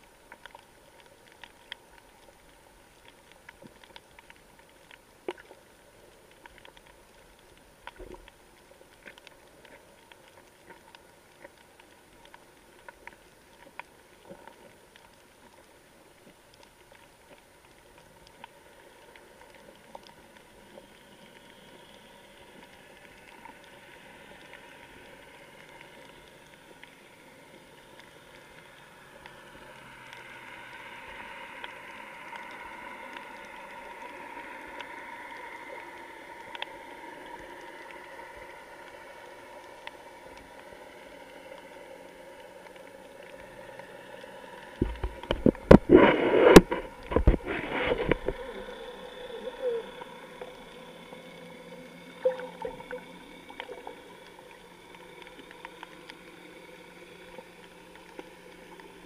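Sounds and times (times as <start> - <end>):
faint underwater hiss: 0.0 - 59.0
water splashing and bubbling: 0.0 - 59.0.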